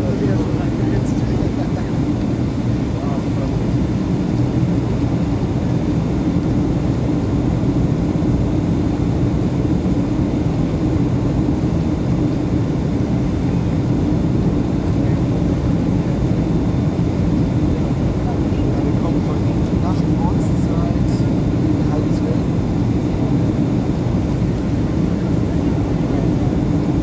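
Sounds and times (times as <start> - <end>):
airplane cabin engine drone: 0.0 - 27.0.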